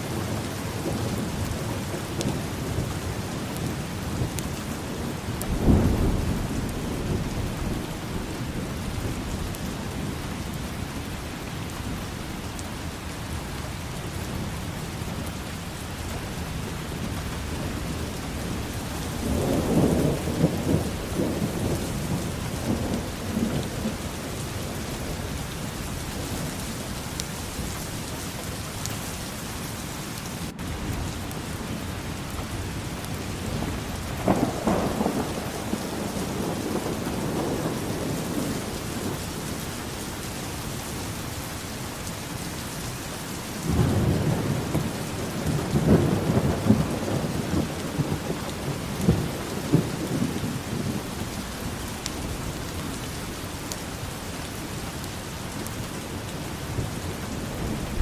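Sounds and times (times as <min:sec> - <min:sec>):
steady rain falling: 0:00.0 - 0:58.0
thunder rumbling: 0:00.1 - 0:12.0, 0:16.3 - 0:27.7, 0:30.4 - 0:41.0, 0:43.4 - 0:53.4, 0:54.6 - 0:58.0.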